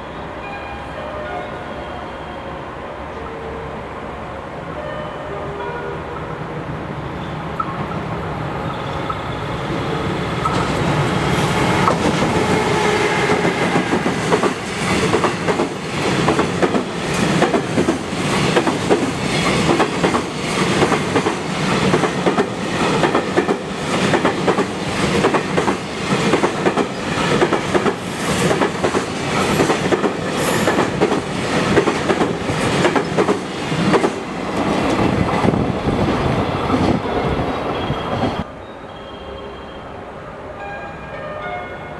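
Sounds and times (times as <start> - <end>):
freight train rolling past: 0.0 - 41.9.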